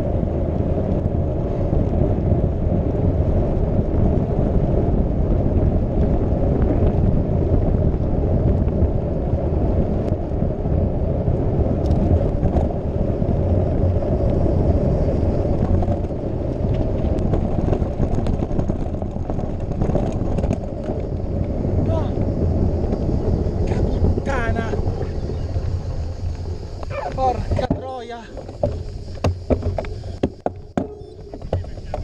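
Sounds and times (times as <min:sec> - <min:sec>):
bicycle rumbling over cobblestones: 0:00.0 - 0:32.0.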